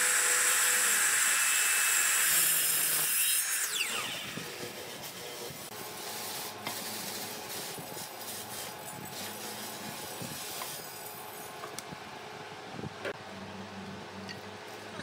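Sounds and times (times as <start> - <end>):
workshop machinery hum and hiss: 0.0 - 15.0.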